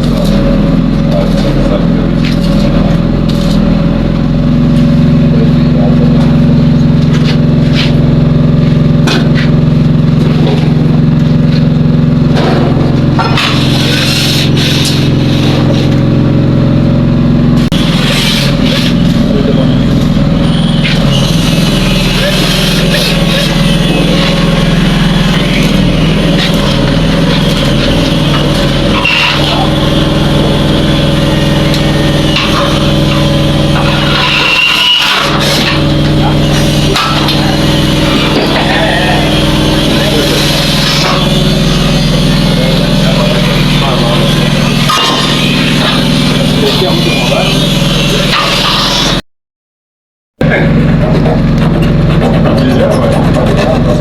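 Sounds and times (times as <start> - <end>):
engine running steadily: 0.0 - 49.2, 50.4 - 54.0.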